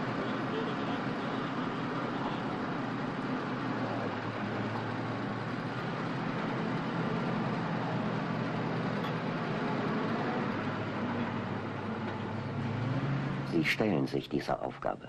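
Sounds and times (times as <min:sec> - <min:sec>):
farm machinery engine drone: 0:00.0 - 0:15.0.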